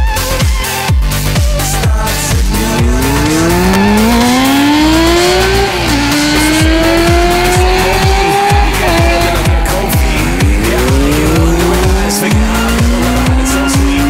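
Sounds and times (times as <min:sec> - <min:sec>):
electronic dance music: 0:00.0 - 0:14.0
motorcycle engine accelerating: 0:01.2 - 0:14.0.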